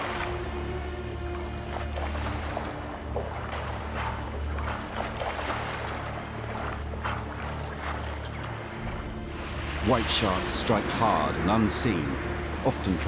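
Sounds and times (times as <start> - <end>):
sea water churning: 0.0 - 13.0
steady low drone: 0.0 - 13.0
water splashes: 0.0 - 13.0.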